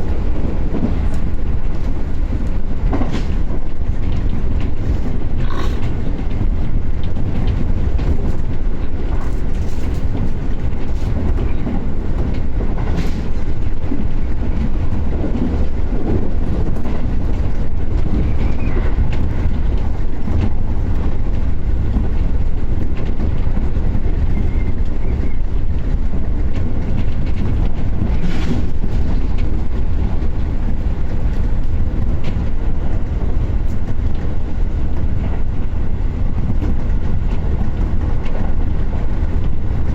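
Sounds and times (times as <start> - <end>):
clicks over rail joints: 0.0 - 39.9
train wheels rumbling on track: 0.0 - 39.9.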